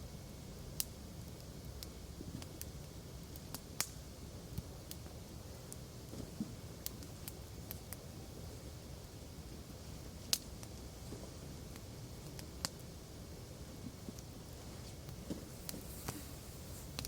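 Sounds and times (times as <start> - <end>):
low rumble of burning fire: 0.0 - 17.0
wood fire crackling: 0.0 - 17.0.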